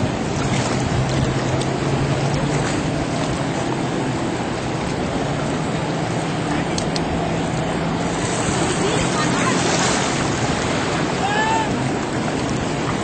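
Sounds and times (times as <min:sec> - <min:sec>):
jet ski engine droning: 0:00.0 - 0:13.0
surf rushing: 0:00.0 - 0:13.0
wind: 0:00.0 - 0:13.0.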